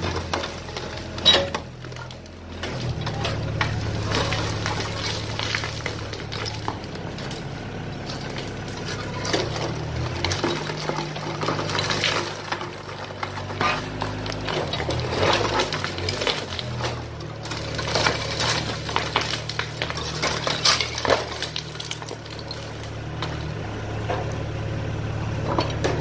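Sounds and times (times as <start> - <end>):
rubble clinking and clattering: 0.0 - 24.5
excavator engine running: 0.0 - 26.0.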